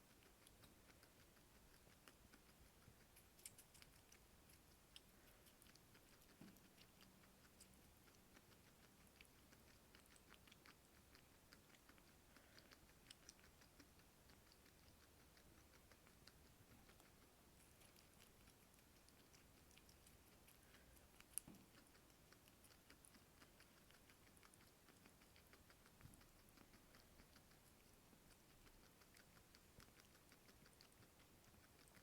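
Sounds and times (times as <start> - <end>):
guinea pig chewing: 0.0 - 32.0.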